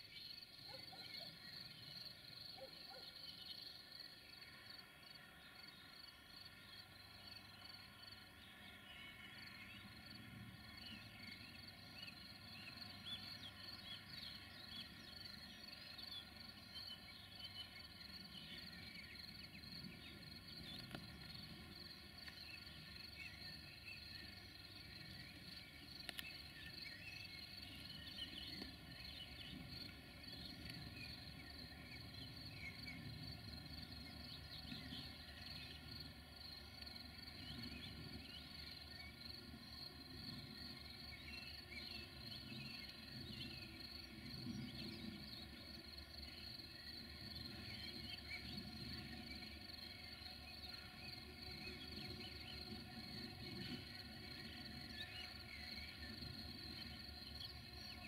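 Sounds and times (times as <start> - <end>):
high insect trill: 0.0 - 58.0.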